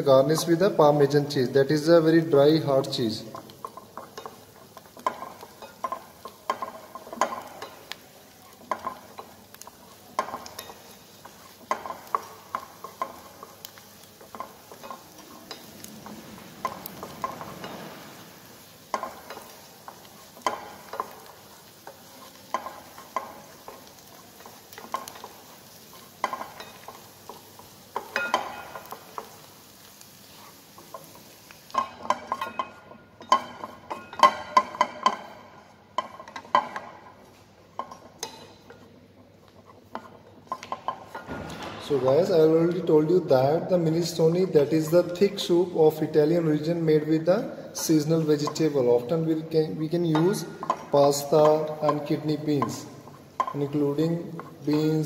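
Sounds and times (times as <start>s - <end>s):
low sizzle: 0.0s - 55.0s
wooden spatula scraping a pan: 1.8s - 41.4s, 43.4s - 55.0s.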